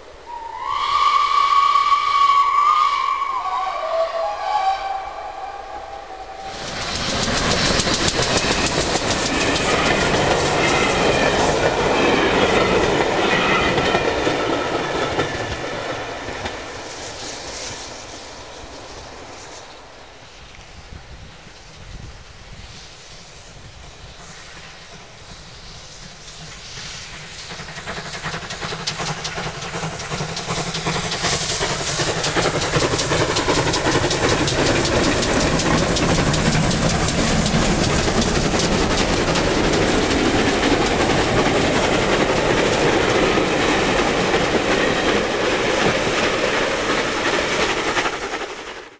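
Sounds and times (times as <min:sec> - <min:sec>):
steam locomotive exhaust beats: 0:00.0 - 0:48.9
train wheels on rails: 0:00.0 - 0:48.9.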